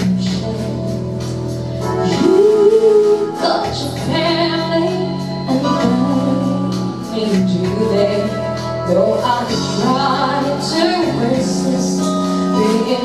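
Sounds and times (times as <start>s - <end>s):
instrumental backing music: 0.0s - 13.0s
woman singing: 0.0s - 13.0s.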